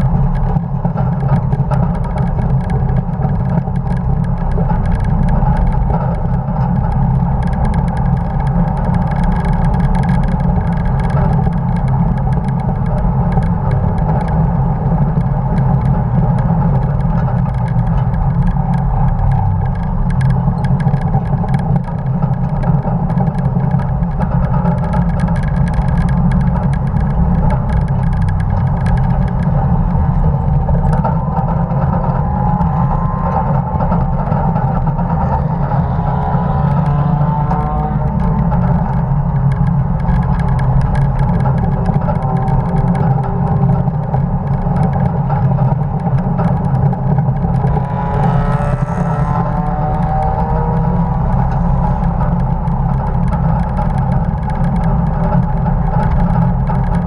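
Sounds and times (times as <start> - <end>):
road noise: 0.0 - 57.0
truck engine under load: 0.0 - 57.0
wind noise: 0.0 - 57.0.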